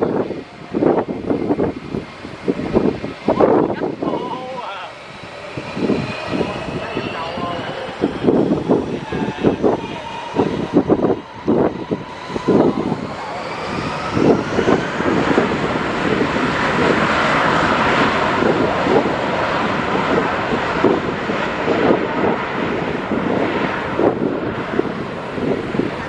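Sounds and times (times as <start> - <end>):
jet engine roar: 0.0 - 26.0
whining fan tones: 0.0 - 26.0.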